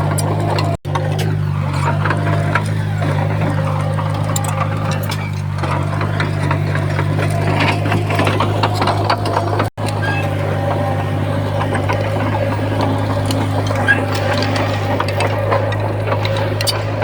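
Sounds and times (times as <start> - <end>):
bulldozer diesel engine running: 0.0 - 17.0
tracks clanking and knocking: 0.0 - 17.0.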